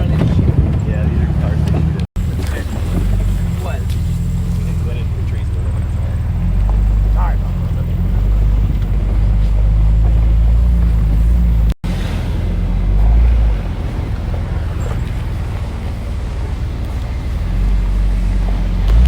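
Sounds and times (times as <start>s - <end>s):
suv engine rumbling: 0.0s - 19.0s.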